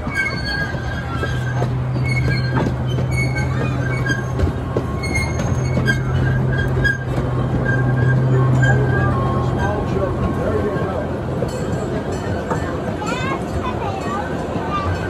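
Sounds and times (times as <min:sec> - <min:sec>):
wheel squeals: 0:00.0 - 0:12.7
ride train running hum: 0:00.0 - 0:15.0
wheels clicking on rails: 0:00.0 - 0:15.0.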